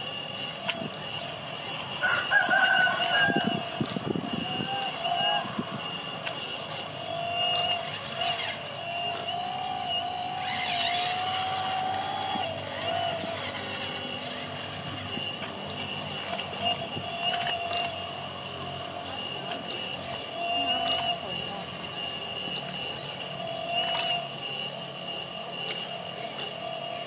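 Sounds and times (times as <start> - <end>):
hydraulic pump whining: 0.0 - 27.0.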